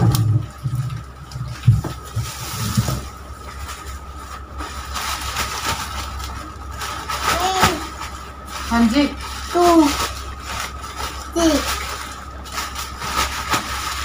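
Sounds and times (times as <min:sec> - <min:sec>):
plastic sack rustling: 0:00.0 - 0:14.0.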